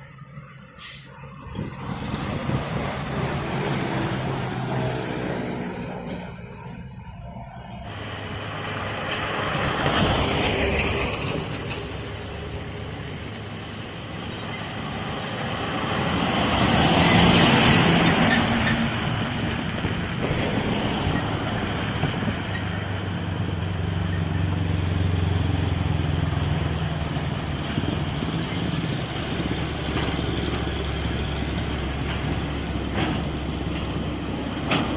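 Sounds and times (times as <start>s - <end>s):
large engine droning: 0.0s - 34.9s
road traffic: 0.0s - 34.9s.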